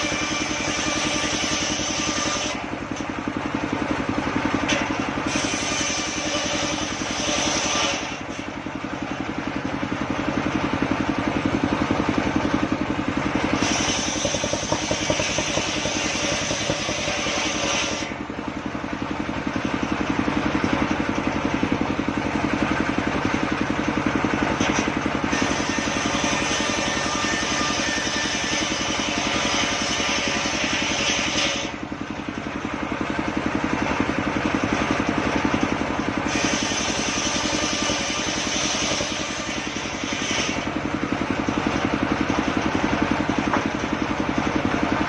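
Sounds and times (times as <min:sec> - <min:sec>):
circular saw cutting wood: 0:00.0 - 0:32.6, 0:33.6 - 0:45.0.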